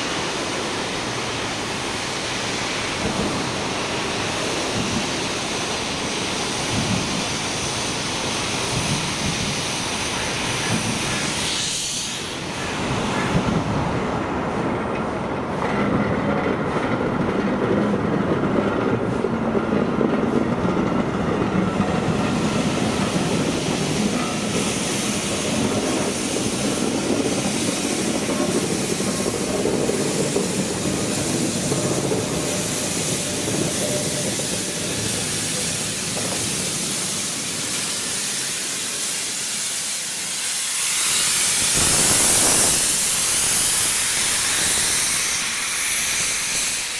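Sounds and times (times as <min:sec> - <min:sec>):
steam hissing: 0:00.0 - 0:14.7, 0:21.0 - 0:46.9.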